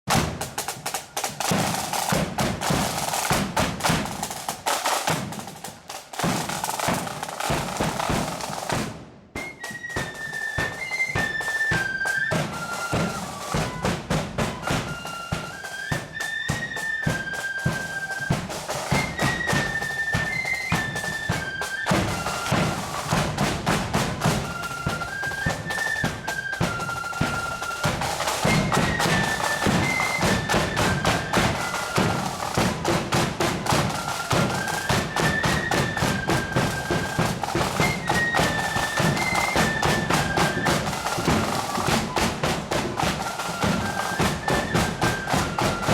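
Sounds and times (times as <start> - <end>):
snare and bass drums: 0.0 - 45.9
flutes playing melody: 0.1 - 8.8, 9.4 - 45.9.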